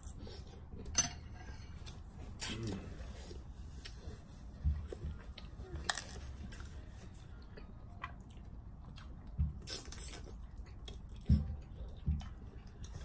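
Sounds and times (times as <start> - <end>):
quiet chewing: 1.7 - 13.0.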